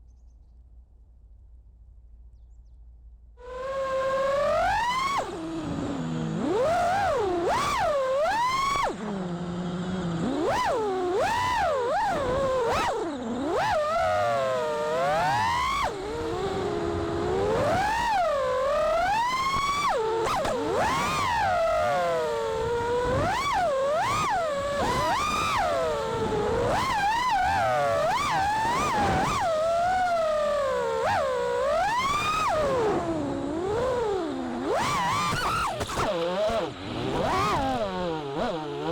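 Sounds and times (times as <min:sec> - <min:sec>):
quadcopter motors whining: 0:03.4 - 0:38.9.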